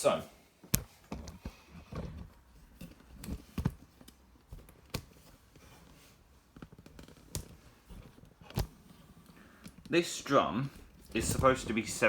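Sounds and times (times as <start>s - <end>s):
handling knocks and clicks: 0.6s - 9.9s, 10.7s - 12.0s.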